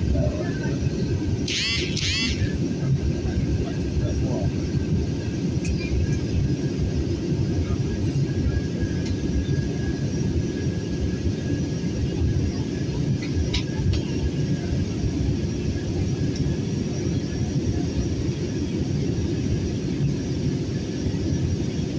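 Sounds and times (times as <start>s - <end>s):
faint steady whine: 0.0s - 21.9s
jet engine and airflow rumble: 0.0s - 21.9s.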